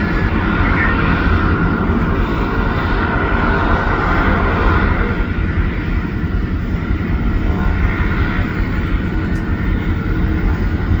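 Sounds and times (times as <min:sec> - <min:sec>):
propeller engine running: 0:00.0 - 0:11.0.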